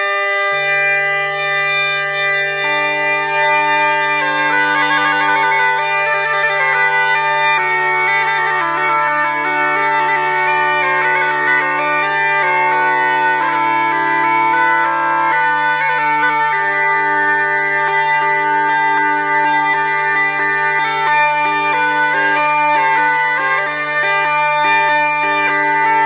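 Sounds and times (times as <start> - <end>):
bagpipe melody: 0.0 - 26.0.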